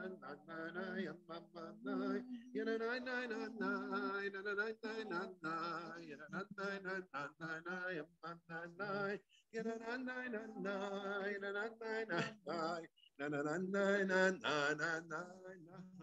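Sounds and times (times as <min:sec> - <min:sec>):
man singing prayer melody: 0:00.0 - 0:16.0.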